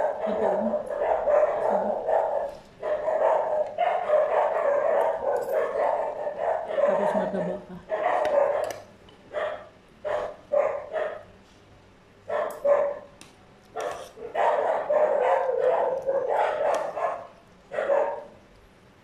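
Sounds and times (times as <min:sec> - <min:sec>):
dogs barking: 0:00.0 - 0:11.4, 0:12.2 - 0:18.4.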